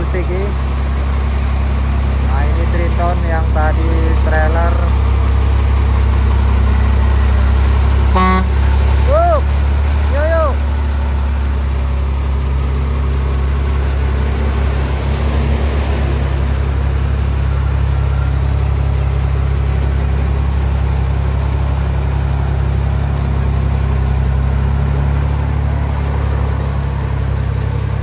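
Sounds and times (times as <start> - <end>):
large vehicle engine droning: 0.0 - 28.0.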